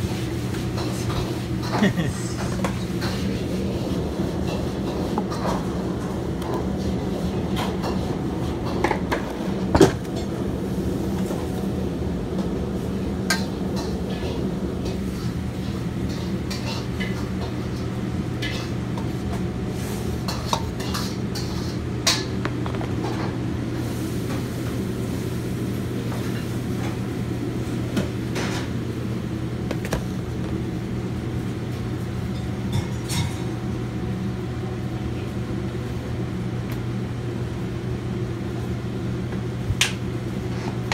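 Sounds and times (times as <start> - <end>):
kitchen equipment humming: 0.0 - 40.9.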